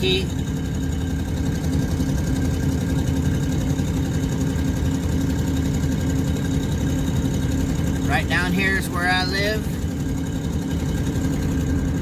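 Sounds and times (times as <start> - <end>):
vehicle driving on paved road: 0.0 - 12.0.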